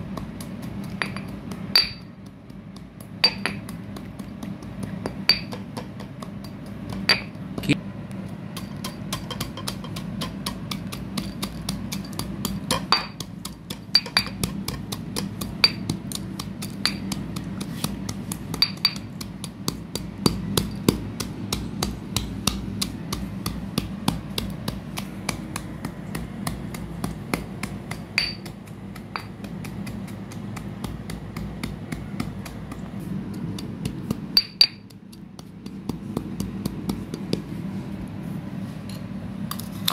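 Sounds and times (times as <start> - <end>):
pestle clinking: 0.0 - 37.5
pestle crunching in stone mortar: 0.0 - 37.5.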